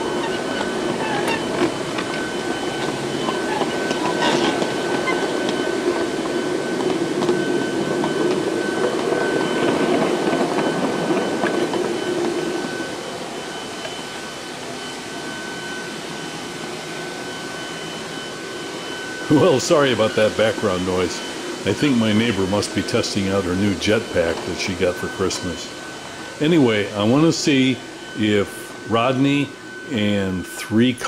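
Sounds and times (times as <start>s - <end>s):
rail car wheels rolling on track: 0.0s - 28.2s
high machine whine: 0.0s - 31.0s.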